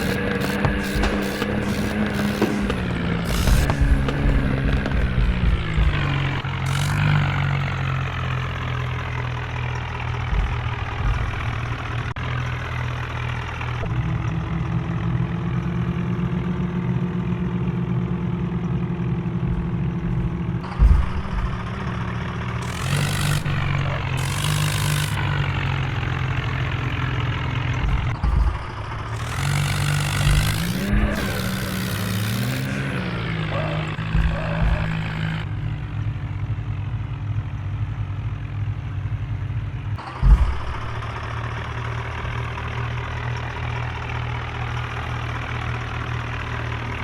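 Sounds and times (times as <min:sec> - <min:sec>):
diesel tractor engine revving: 0:00.0 - 0:47.0.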